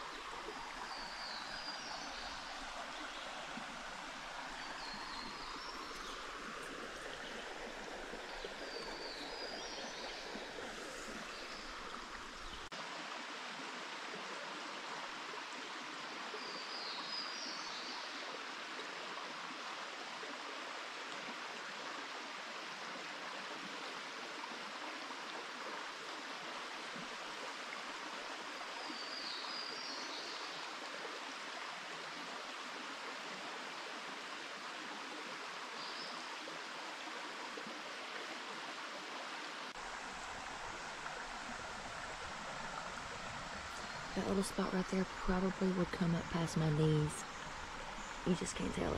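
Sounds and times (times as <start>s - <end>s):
stream flowing: 0.0s - 48.9s.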